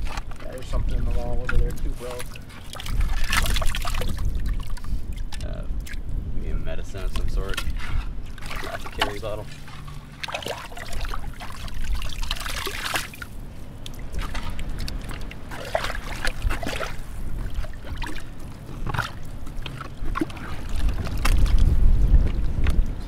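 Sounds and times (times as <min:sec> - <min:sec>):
shovel sloshing muddy water: 0:00.0 - 0:06.0, 0:07.2 - 0:22.4.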